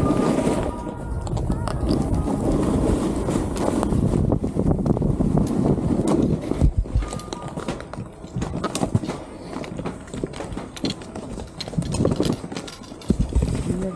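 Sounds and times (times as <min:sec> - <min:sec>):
snowboard and boots on snowy steps: 0:00.0 - 0:13.9.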